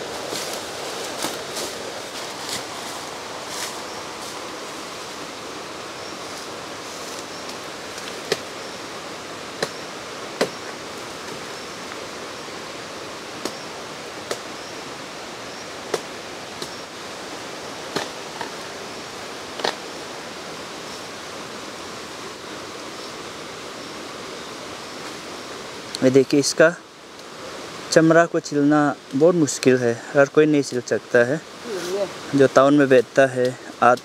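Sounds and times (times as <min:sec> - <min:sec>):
steady rushing hiss: 0:00.0 - 0:34.0.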